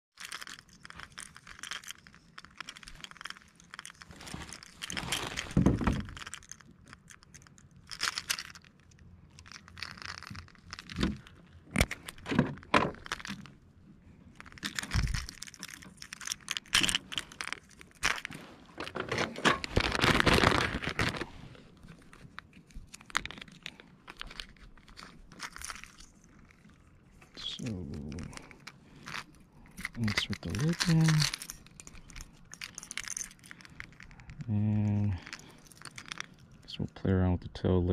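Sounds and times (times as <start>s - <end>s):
rustling handling noise: 0.1s - 37.1s
treble hooks clinking: 0.1s - 37.1s.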